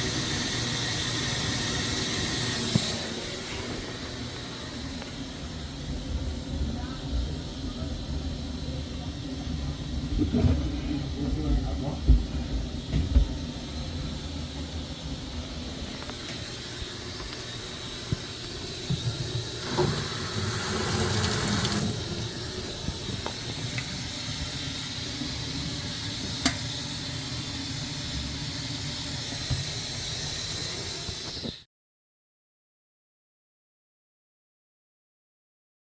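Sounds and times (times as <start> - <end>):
water hissing through pipe: 0.0 - 31.7.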